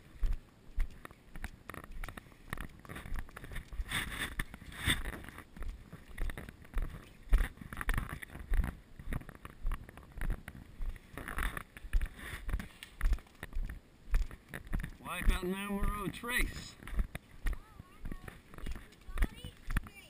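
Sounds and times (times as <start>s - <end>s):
footsteps on concrete: 0.0s - 20.0s
wind rumbling on microphone: 0.0s - 20.0s.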